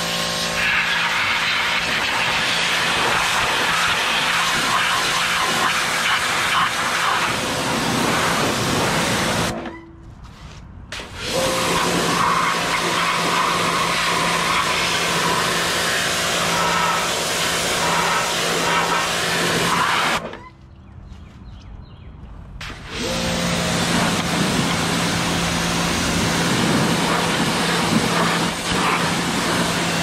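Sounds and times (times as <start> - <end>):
pressure washer spraying water: 0.0 - 9.6, 11.0 - 20.4, 22.6 - 30.0.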